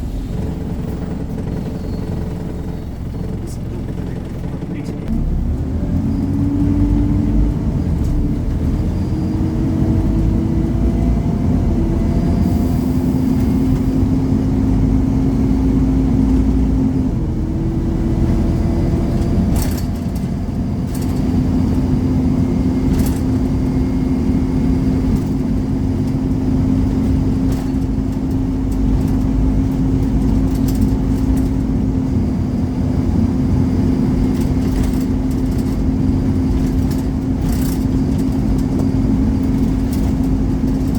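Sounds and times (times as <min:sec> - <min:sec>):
bus engine accelerating: 0:00.0 - 0:40.9
low road rumble: 0:00.0 - 0:40.9.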